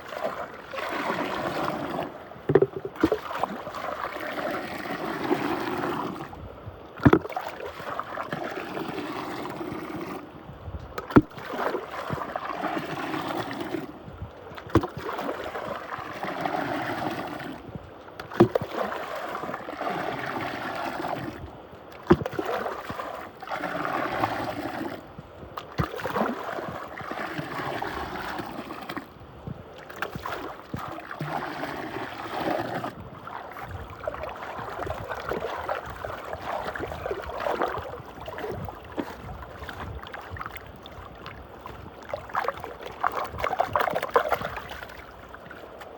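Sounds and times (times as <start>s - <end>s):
water swirling and gurgling: 0.0s - 45.9s.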